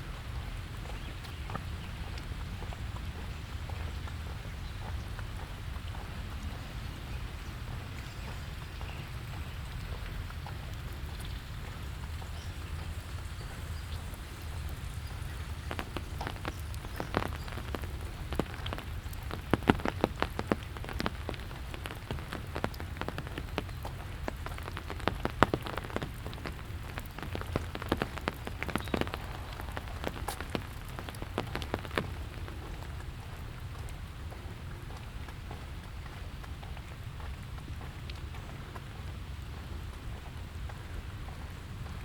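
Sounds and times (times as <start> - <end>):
raindrops ticking close by: 0.0 - 42.0
steady rain falling: 0.0 - 42.0.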